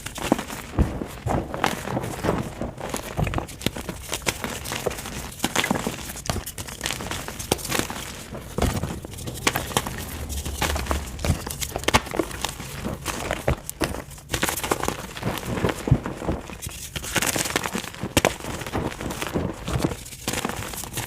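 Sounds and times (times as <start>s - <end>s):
chalk being crushed by hand: 0.0s - 21.0s.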